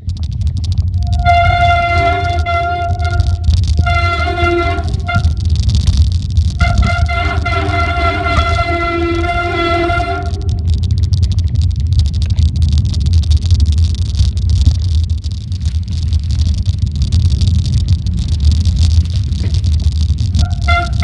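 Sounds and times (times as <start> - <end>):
mountain bike rattling on trail: 0.0 - 21.0
wind buffeting microphone: 0.0 - 21.0.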